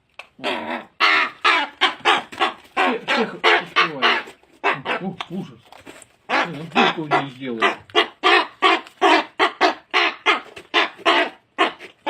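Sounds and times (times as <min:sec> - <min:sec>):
bird calling: 0:00.4 - 0:05.5, 0:06.3 - 0:12.0.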